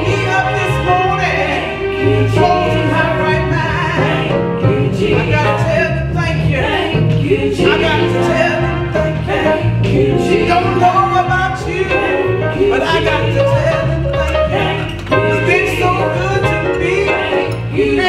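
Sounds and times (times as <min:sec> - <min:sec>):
instrumental backing track: 0:00.0 - 0:18.0.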